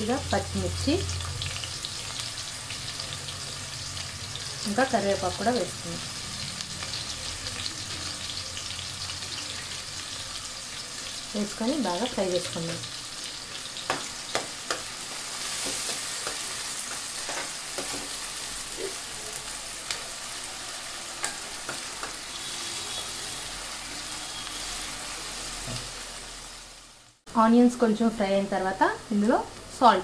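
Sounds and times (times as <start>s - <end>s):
vegetables sizzling in hot oil: 0.0s - 30.0s.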